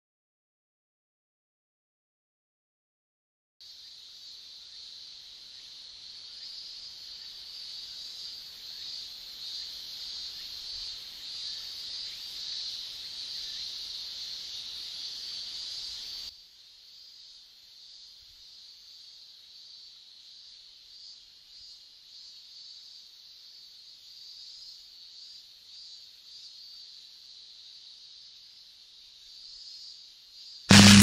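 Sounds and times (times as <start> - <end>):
high-pitched insect chorus: 3.6 - 30.8.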